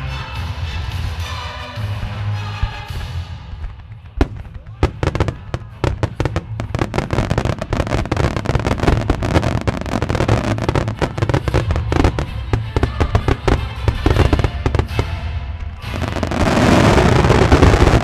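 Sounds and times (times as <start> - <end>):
fireworks crackle: 1.9 - 18.0
low rumble: 1.9 - 18.0
fireworks bangs: 3.0 - 18.0.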